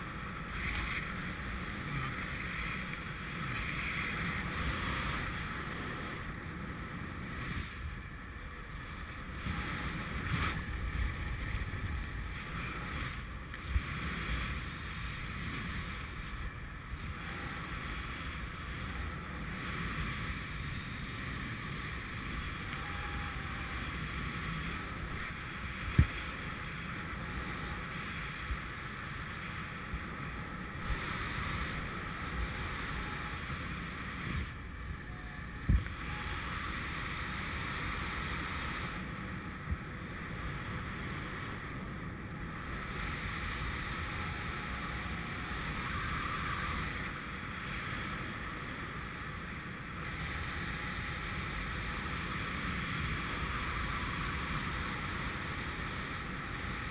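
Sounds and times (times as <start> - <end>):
wind rumble on microphone: 0.0 - 56.9.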